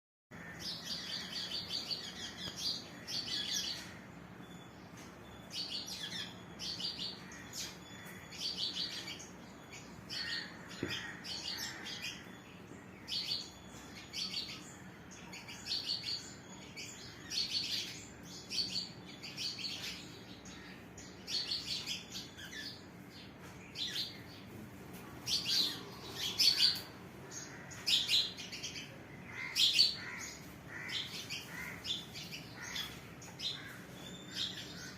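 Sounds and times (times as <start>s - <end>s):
small birds chirping: 0.3s - 34.9s.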